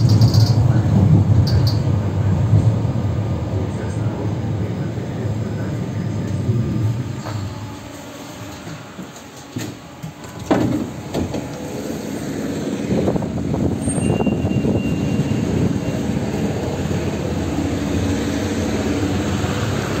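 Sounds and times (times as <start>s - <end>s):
tram rumble: 0.0s - 20.0s.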